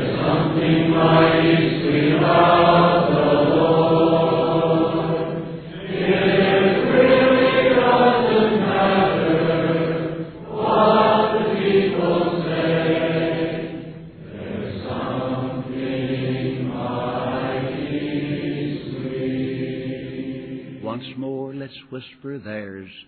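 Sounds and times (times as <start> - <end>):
girls' choir singing gospel: 0.0 - 21.2.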